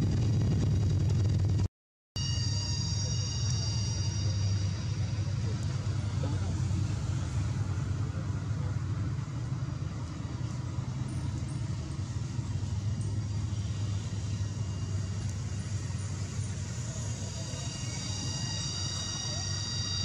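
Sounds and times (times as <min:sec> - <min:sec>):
low outdoor rumble: 0:00.0 - 0:20.0
faint high whine: 0:02.2 - 0:20.0.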